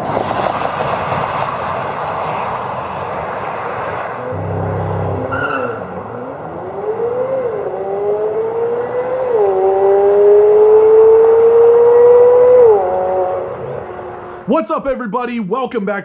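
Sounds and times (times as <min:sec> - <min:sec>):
car engine accelerating hard: 0:00.1 - 0:14.5.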